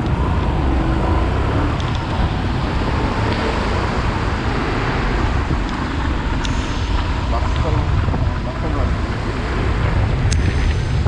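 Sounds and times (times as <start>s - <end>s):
vehicle and road noise: 0.0s - 11.0s
wind rushing over microphone: 0.0s - 11.0s.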